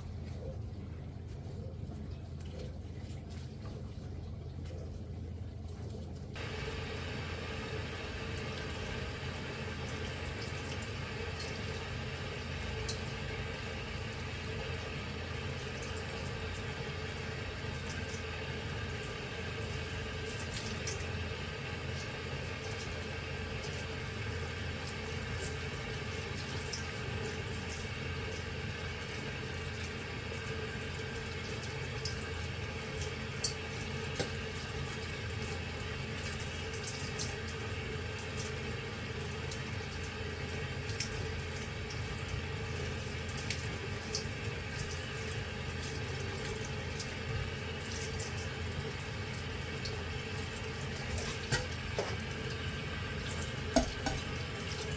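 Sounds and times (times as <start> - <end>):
tap water running into a sink: 5.6 - 54.9.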